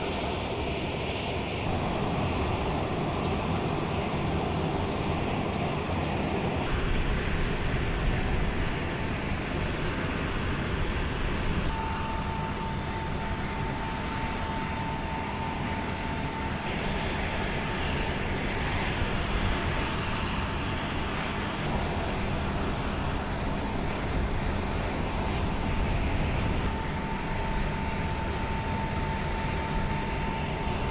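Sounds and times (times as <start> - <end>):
high engine whine: 0.0 - 30.9
jet engines rumbling: 0.0 - 30.9.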